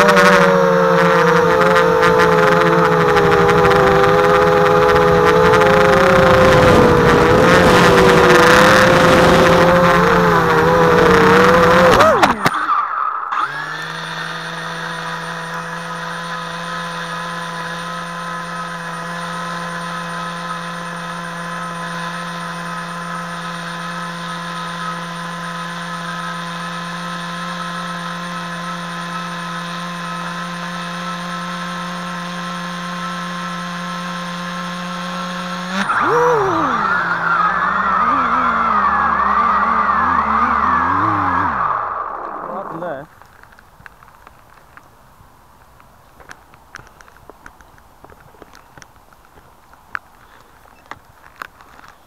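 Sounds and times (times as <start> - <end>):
quadcopter motors humming: 0.0 - 43.5.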